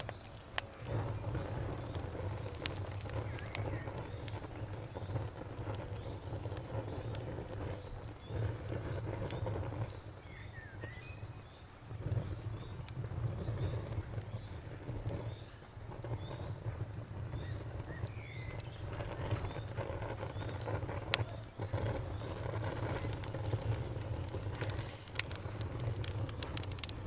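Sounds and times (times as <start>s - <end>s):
campfire crackling and popping: 0.0s - 27.0s
crickets chirping: 0.0s - 27.0s.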